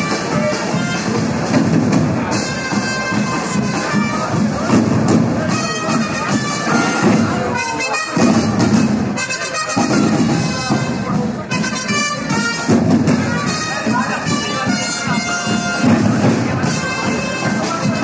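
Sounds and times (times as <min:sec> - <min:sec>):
side drums playing: 0:00.0 - 0:18.0
wind instrument melody: 0:00.0 - 0:18.0.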